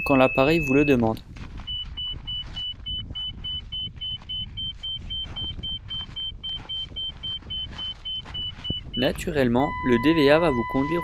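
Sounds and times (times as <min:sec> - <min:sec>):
avalanche transceiver beeping fast: 0:00.0 - 0:11.0.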